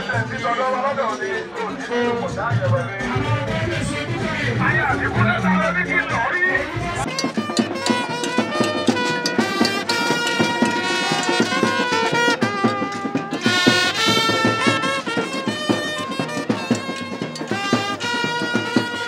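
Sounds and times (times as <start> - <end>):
held horn lines: 0.0 - 19.0
steady percussion beat: 0.0 - 19.0.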